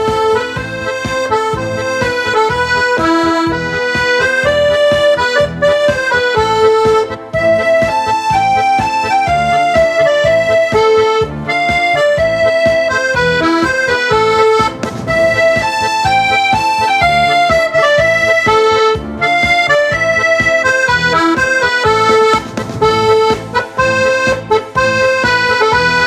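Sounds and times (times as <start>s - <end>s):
accordion-led tune with rhythmic beat: 0.0s - 26.0s.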